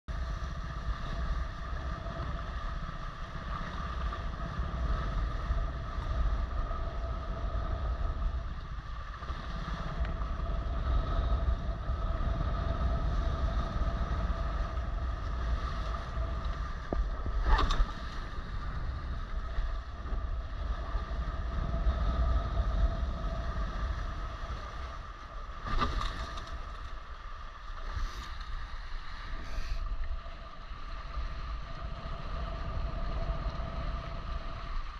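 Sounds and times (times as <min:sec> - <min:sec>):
wind buffeting microphone: 0:00.1 - 0:30.7
faint steady hum: 0:00.1 - 0:34.9.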